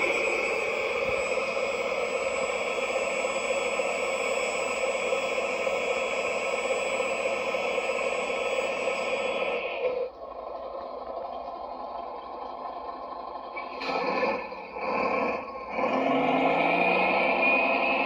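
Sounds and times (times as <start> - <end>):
diesel engine sound from loudspeaker: 0.0 - 18.0.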